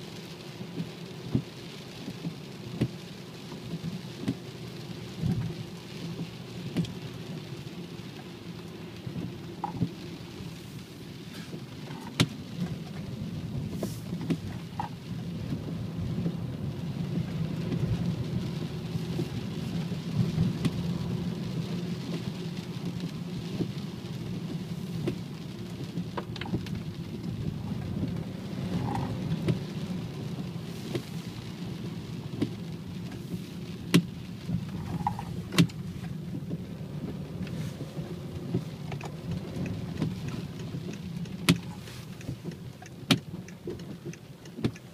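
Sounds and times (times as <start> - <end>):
car droning rumble: 4.8 - 44.9.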